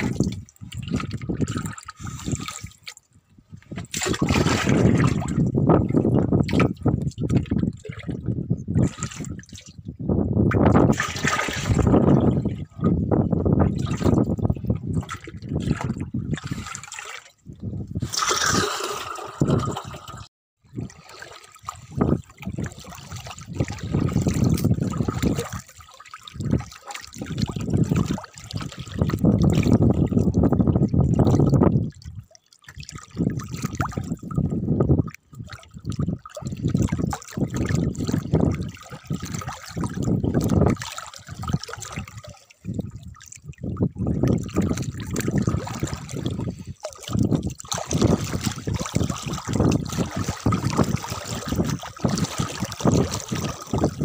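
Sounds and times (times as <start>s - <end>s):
water sloshing and pouring: 0.0s - 54.0s.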